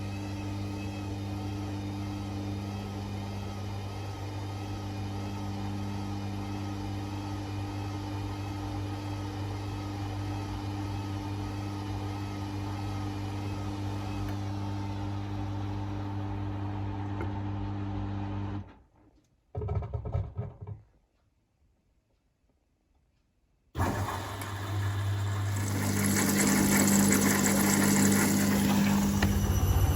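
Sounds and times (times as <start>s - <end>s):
washing machine motor humming: 0.0s - 18.6s, 23.8s - 29.9s.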